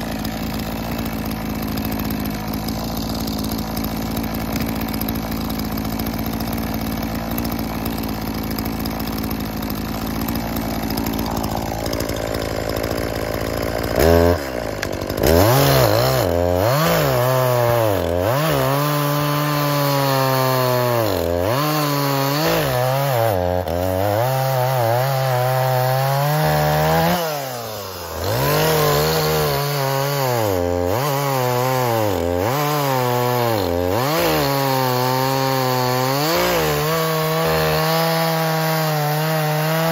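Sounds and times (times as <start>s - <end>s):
chainsaw idling and cutting log: 0.0s - 39.9s.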